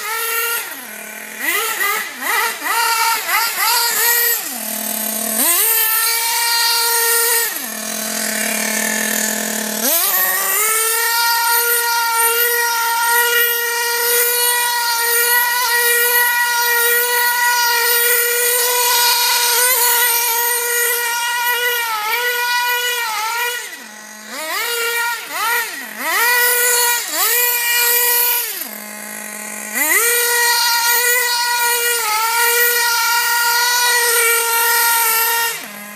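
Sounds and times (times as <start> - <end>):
small nitro engine revving: 0.0 - 35.9.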